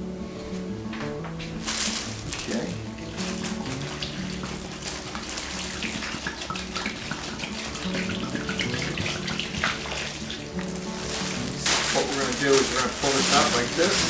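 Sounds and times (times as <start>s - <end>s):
water gurgling in plastic bag: 1.6s - 14.0s.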